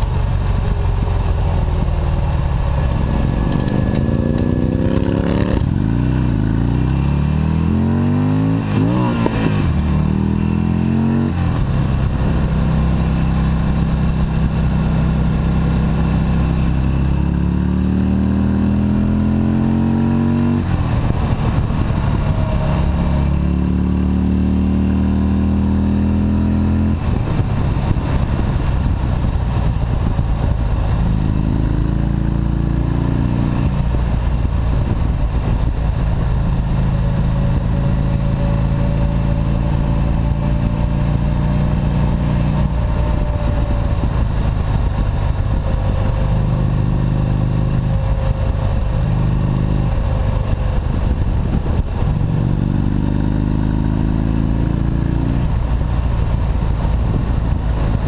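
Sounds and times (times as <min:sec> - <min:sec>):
motorcycle engine accelerating: 0:00.0 - 0:58.0
wind noise: 0:00.0 - 0:58.0.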